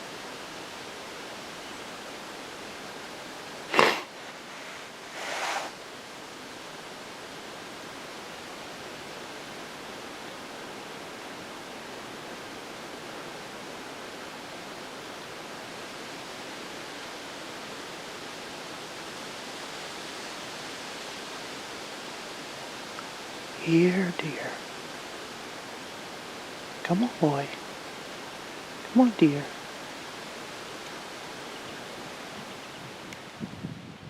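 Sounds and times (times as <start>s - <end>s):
outdoor hiss: 0.0s - 34.0s.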